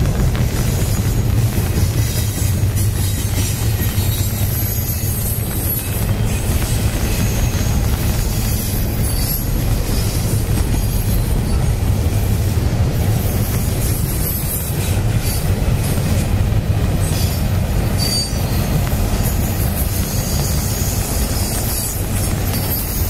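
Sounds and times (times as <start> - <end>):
freight train wheels rumbling on rail: 0.0 - 23.0.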